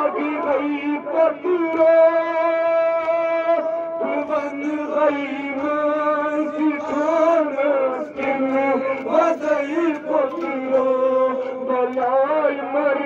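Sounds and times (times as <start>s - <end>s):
man chanting into microphone: 0.0s - 13.0s.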